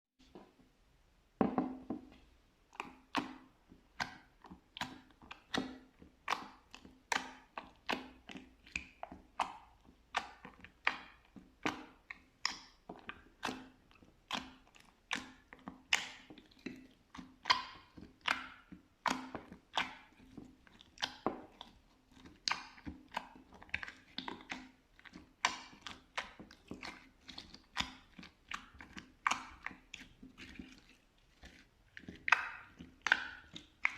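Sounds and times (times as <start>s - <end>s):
slime squished by hand: 2.7s - 33.9s.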